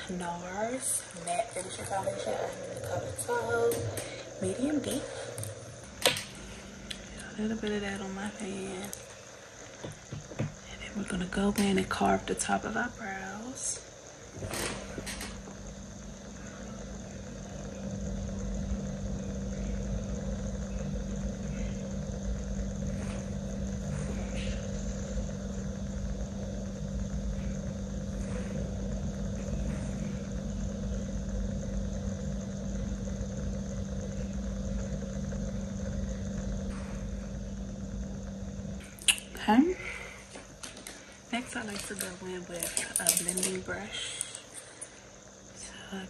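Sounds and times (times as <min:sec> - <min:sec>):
deep rumble: 0:00.0 - 0:44.4
low machine hum: 0:00.0 - 0:46.0.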